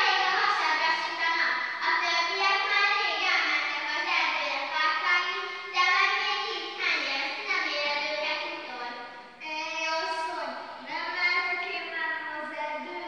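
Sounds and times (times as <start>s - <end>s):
child singing unaccompanied: 0.0s - 13.0s.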